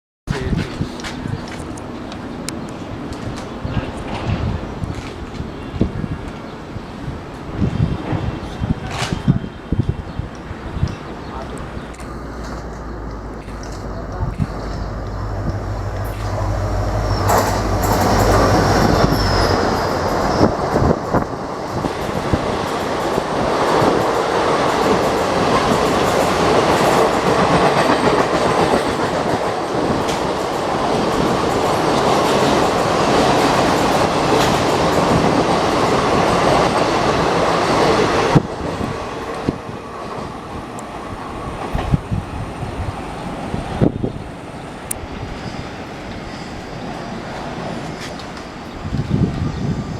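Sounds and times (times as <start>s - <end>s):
train rumbling past: 0.3s - 49.9s.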